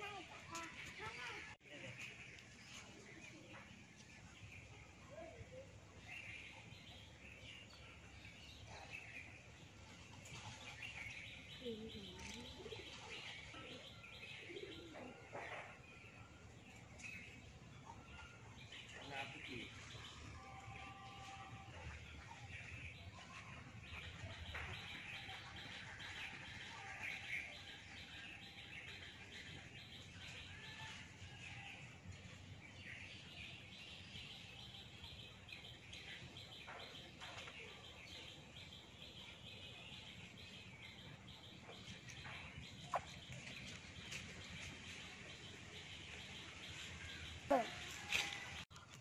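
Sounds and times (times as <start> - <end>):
faint birds chirping: 0.0 - 49.0.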